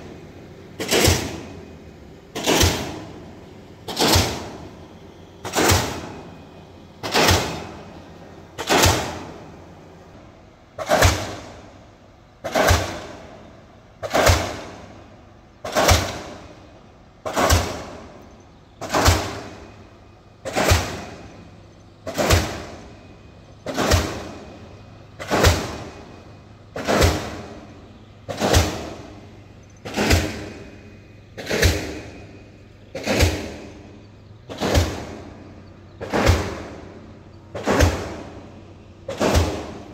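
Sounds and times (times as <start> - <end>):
pile-driving hammer blows: 0.0 - 39.9.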